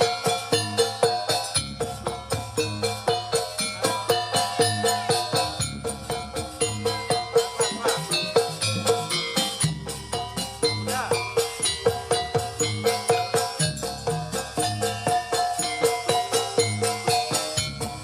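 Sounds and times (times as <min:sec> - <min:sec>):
rattling jingling percussion: 0:00.0 - 0:18.0
ringing pitched notes: 0:00.0 - 0:18.0.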